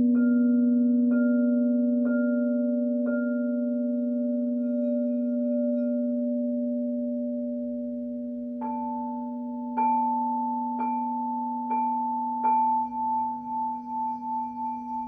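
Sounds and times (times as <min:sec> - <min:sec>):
low singing bowl deep tone: 0:00.0 - 0:15.0.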